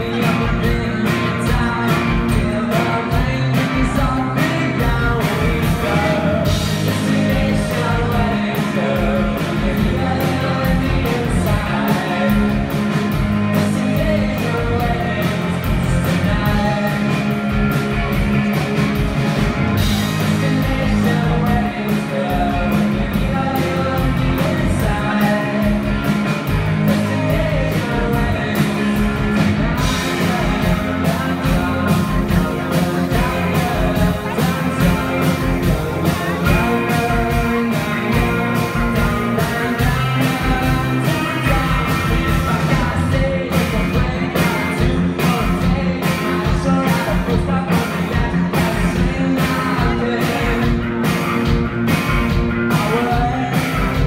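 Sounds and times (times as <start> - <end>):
man singing: 0.0 - 18.6, 19.8 - 51.6, 52.3 - 54.0
bass guitar: 0.0 - 54.0
drums: 0.0 - 54.0
electric guitar: 0.0 - 54.0.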